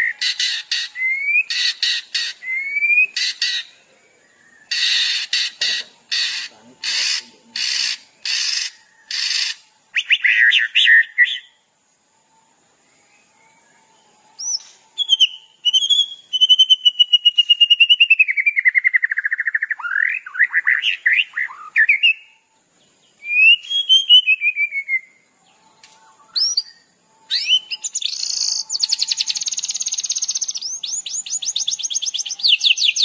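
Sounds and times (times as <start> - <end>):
songbird calls and song: 0.0 - 33.0.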